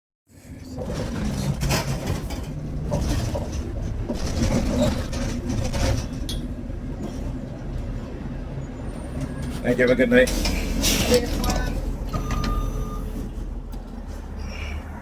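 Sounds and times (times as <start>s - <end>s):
road noise: 0.3s - 15.0s
vehicle engine rumble: 0.3s - 15.0s.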